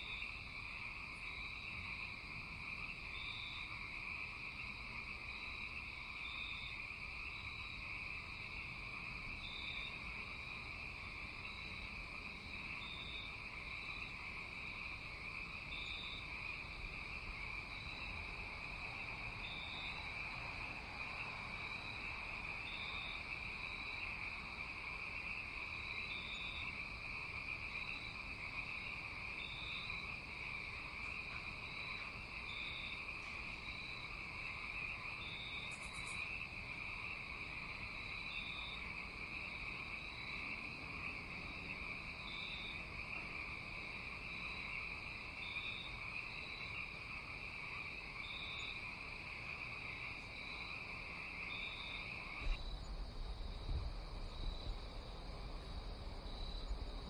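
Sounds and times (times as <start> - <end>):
cricket chirps: 0.0 - 57.0
insects droning: 0.0 - 57.0.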